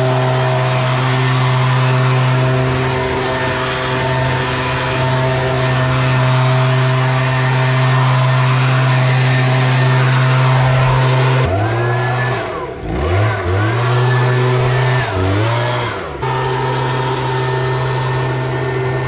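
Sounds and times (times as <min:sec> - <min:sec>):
leaf blower engine revving: 0:00.0 - 0:19.0.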